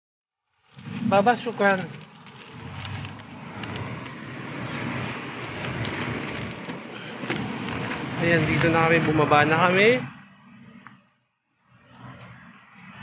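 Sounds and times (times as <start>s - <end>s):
traffic rumble: 0.5s - 13.0s.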